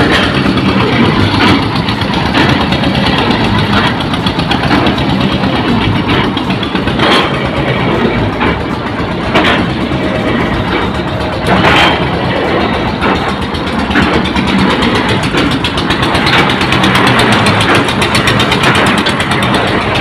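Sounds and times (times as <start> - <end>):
drilling rig engine running: 0.0 - 20.0.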